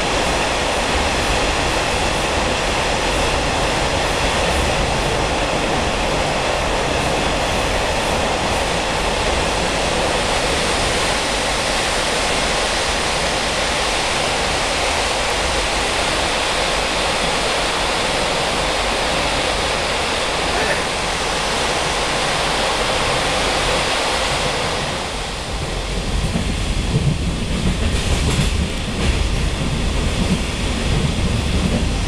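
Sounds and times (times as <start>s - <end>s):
train wheels rushing on rail: 0.0s - 32.0s.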